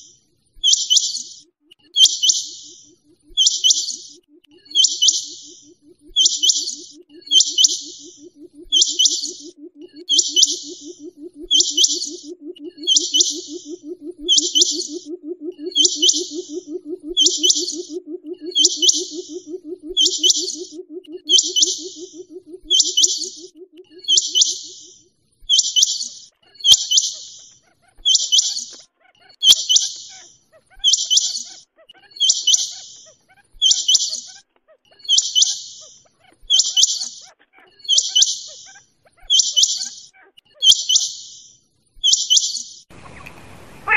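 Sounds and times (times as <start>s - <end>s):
low pulsing bird call: 0.0s - 41.2s.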